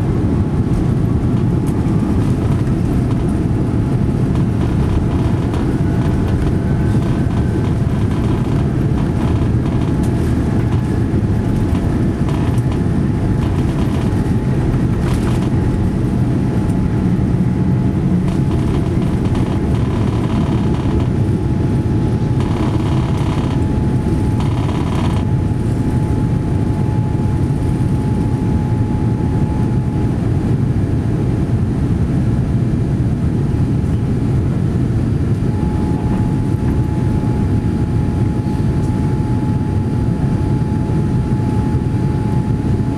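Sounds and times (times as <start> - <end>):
airliner cabin rumble: 0.0 - 42.9
faint steady whine: 0.0 - 42.9.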